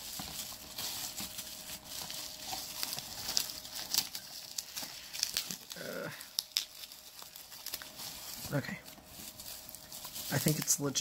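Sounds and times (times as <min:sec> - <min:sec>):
faint steady hum: 0:00.0 - 0:11.0
plastic packaging crinkling: 0:00.0 - 0:11.0.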